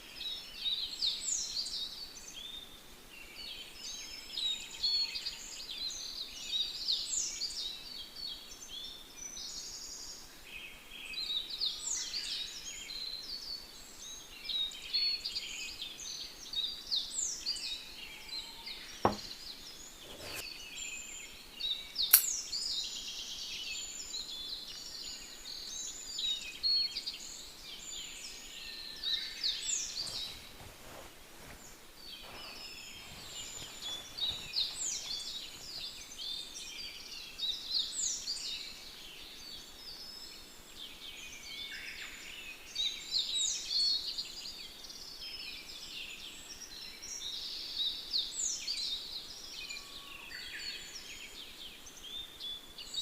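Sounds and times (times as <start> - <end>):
faint steady hiss: 0.0 - 53.0
songbirds singing: 0.0 - 53.0.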